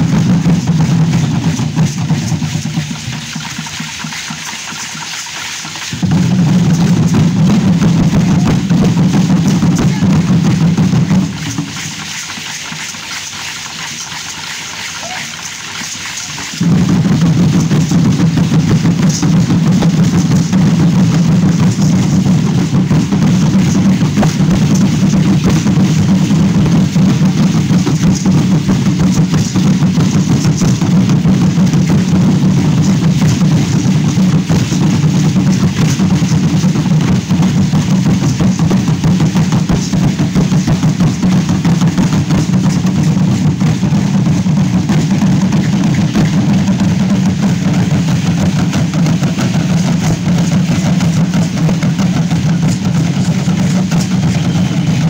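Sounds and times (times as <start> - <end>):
wooden drums drumming: 0.0 - 55.0.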